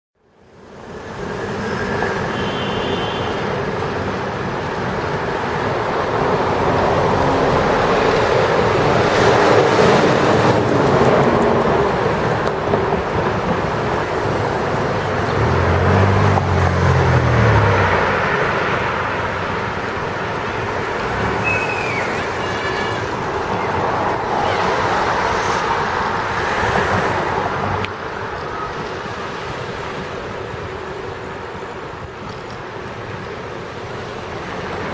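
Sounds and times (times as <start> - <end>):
city street traffic: 0.2 - 34.9
cars passing: 0.4 - 34.9.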